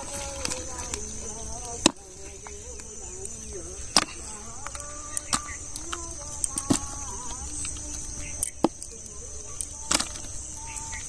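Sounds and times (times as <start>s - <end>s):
clicks and knocks of sorting: 0.0s - 11.0s
insect chirring: 0.0s - 11.0s.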